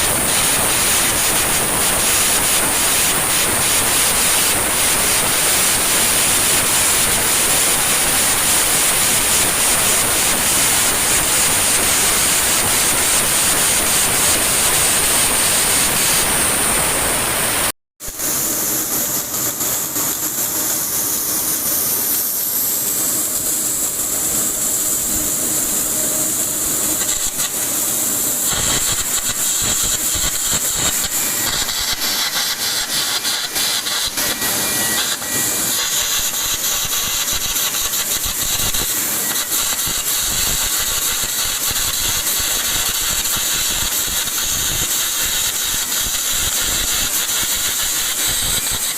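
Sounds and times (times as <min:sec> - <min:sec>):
welding machinery hissing: 0:00.0 - 0:48.9.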